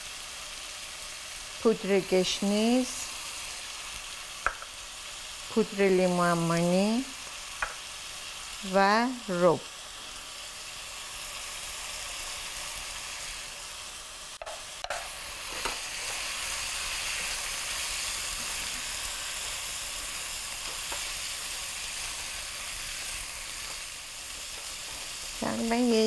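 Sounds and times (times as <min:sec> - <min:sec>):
meat and onions sizzling in oil: 0:00.0 - 0:26.0.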